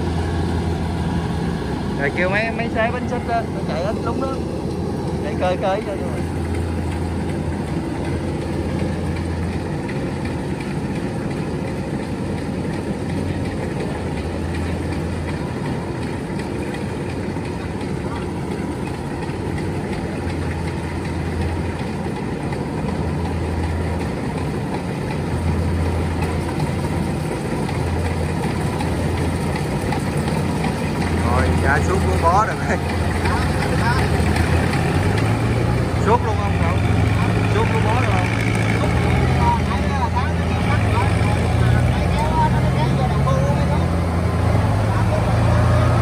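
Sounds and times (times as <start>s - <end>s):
combine harvester engine running: 0.0s - 46.0s.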